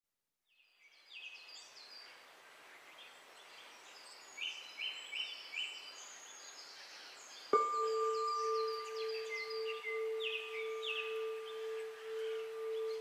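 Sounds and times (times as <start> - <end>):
birdsong chirps: 0.5 - 13.0
steady outdoor hiss: 0.5 - 13.0.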